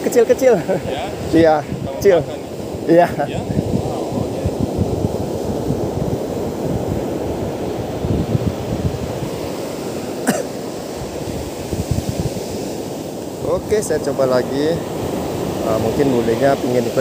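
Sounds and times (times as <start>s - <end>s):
wind noise on microphone: 0.0s - 10.1s, 10.8s - 17.0s
waves breaking on beach: 0.0s - 17.0s.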